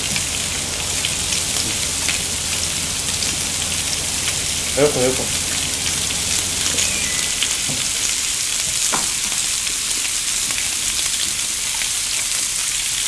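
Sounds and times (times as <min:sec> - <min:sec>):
pork sizzling on a grill: 0:00.0 - 0:13.0.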